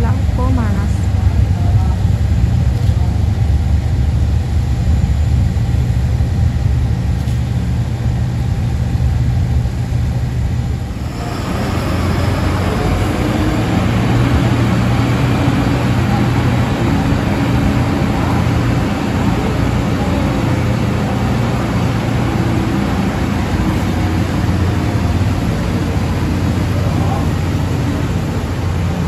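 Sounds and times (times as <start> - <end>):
diesel engine idling: 0.0 - 29.0
loud rushing noise: 3.4 - 29.0.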